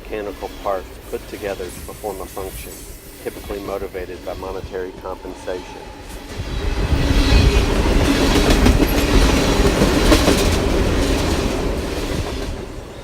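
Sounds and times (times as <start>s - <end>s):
train rumbling: 0.0s - 13.0s
train wheels clattering on rails: 0.0s - 13.0s.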